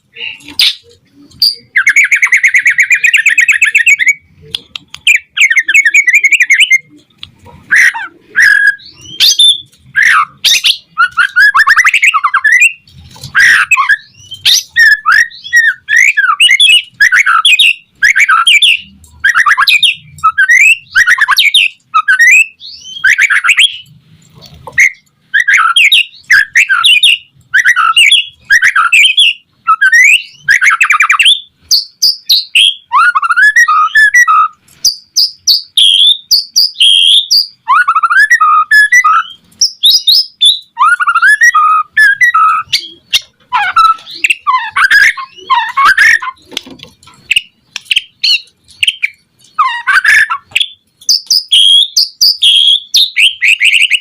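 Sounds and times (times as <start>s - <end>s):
songbird whistles and trills: 0.0s - 23.9s, 24.7s - 54.0s.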